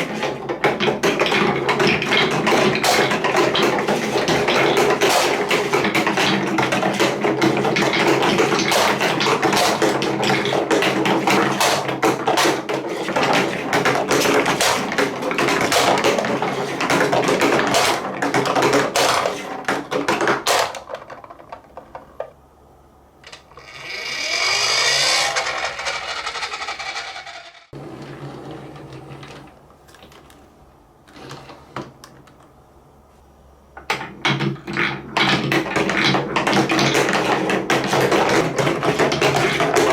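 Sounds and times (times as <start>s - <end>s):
marbles clattering down plastic track: 0.0s - 22.1s, 23.3s - 27.8s, 34.3s - 39.9s.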